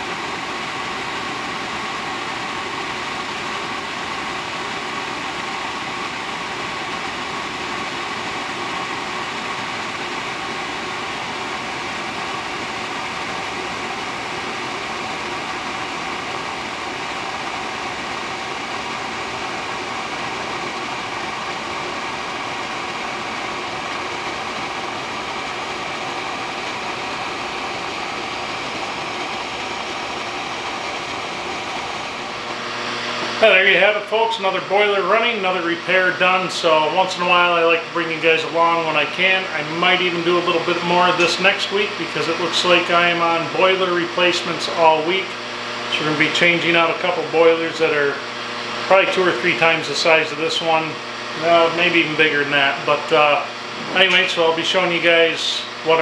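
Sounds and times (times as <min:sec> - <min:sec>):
oil burner running: 0:00.0 - 0:56.0.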